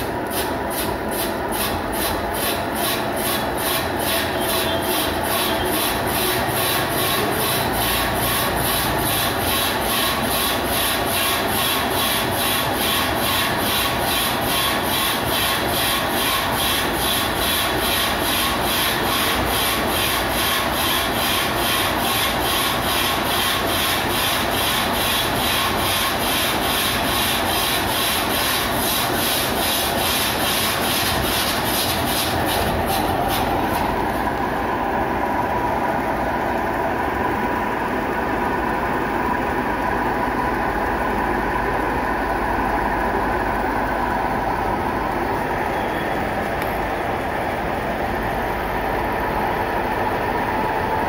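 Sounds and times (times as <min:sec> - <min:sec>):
rhythmic flywheel beat: 0:00.0 - 0:45.4
electric motor and alternator running: 0:00.0 - 0:51.0.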